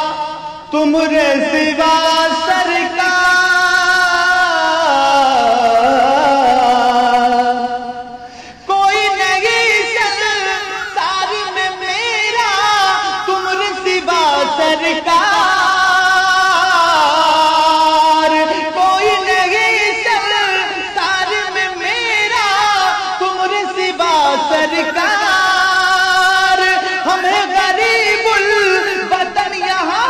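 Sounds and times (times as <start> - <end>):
man singing melismatic passage: 0.0 - 30.0.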